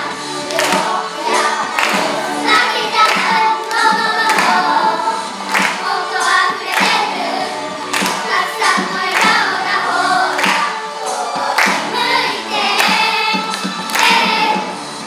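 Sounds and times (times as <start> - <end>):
backing music with sharp beat: 0.0 - 15.0
children singing: 0.0 - 15.0.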